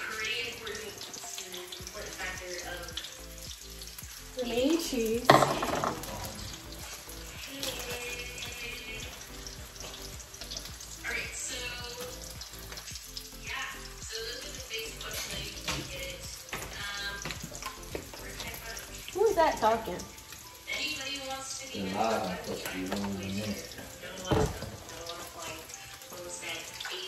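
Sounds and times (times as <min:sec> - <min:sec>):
background music: 0:00.0 - 0:27.0
food sizzling: 0:00.0 - 0:27.0.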